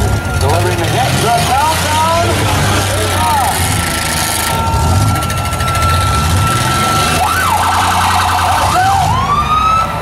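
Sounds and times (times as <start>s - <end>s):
electronic siren wailing: 0.0s - 10.0s
idling engines rumbling: 0.0s - 10.0s.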